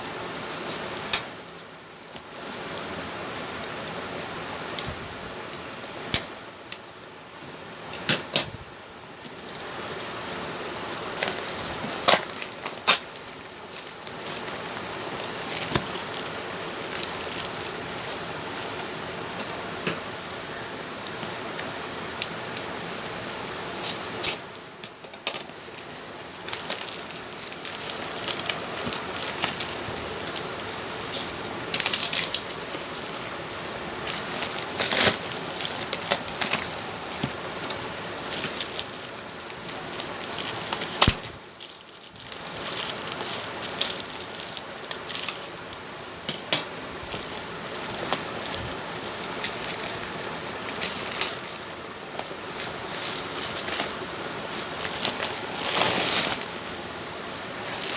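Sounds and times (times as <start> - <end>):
steady background hiss: 0.0 - 57.9
wrapping crinkling: 9.2 - 20.4, 21.0 - 57.9.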